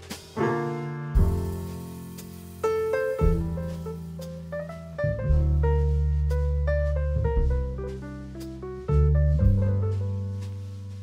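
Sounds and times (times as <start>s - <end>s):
grand piano melody: 0.0s - 11.0s
jazz trio music: 0.0s - 11.0s.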